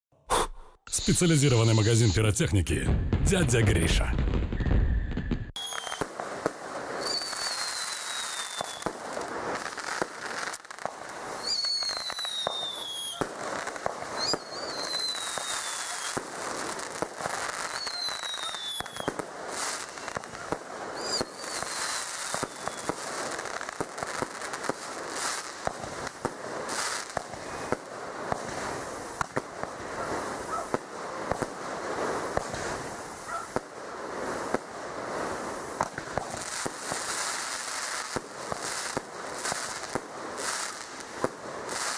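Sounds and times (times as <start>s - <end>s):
fireworks bangs and pops: 0.9s - 41.9s
falling firework whistles: 4.4s - 41.9s.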